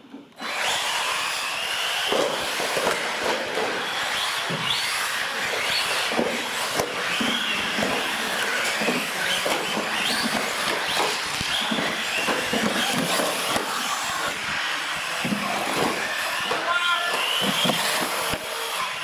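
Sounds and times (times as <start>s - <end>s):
toy car motors whining: 0.3s - 19.0s.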